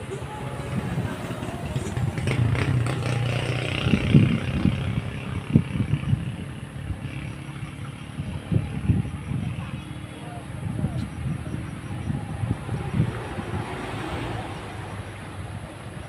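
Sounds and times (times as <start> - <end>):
vehicle engine running: 0.0 - 13.5.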